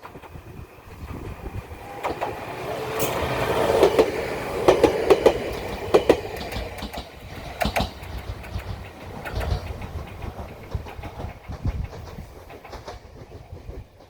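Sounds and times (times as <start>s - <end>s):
electric train running past: 0.0s - 14.0s
wheels clacking over rail joints: 0.0s - 14.0s.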